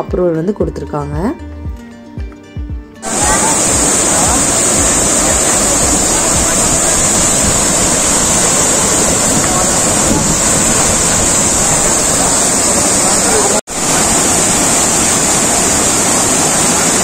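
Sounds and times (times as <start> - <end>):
water rushing over a cascade: 3.0 - 17.0.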